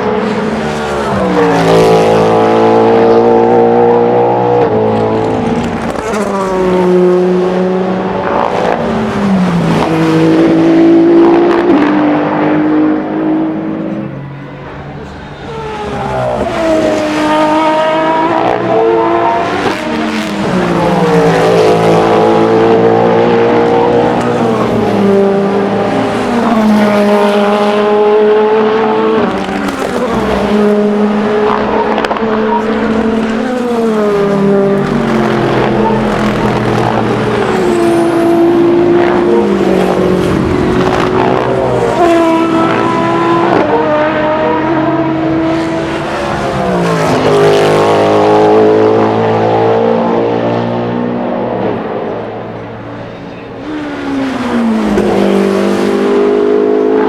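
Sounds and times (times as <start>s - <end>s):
racing cars passing: 0.0s - 57.0s.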